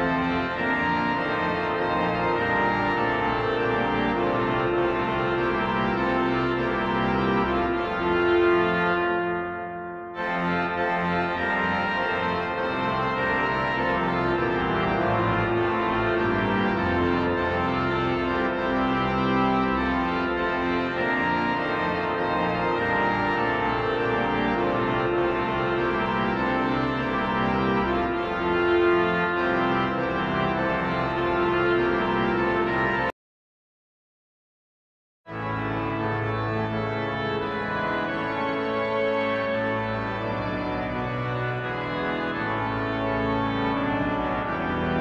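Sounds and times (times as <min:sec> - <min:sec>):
church organ chords: 0:00.0 - 0:33.2, 0:35.3 - 0:45.0.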